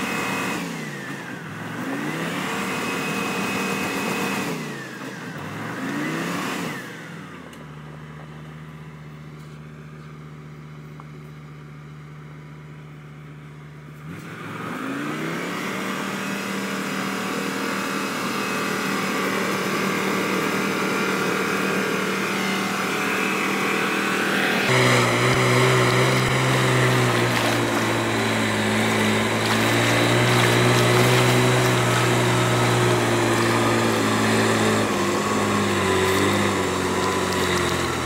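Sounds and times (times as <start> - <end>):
diesel truck engine revving: 0.0 - 9.2, 13.2 - 38.0.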